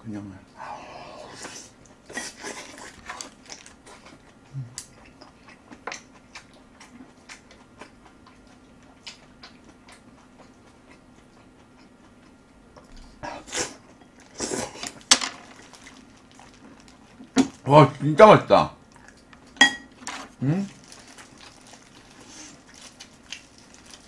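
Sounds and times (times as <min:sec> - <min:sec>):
person chewing food: 0:01.3 - 0:17.6, 0:18.9 - 0:24.0.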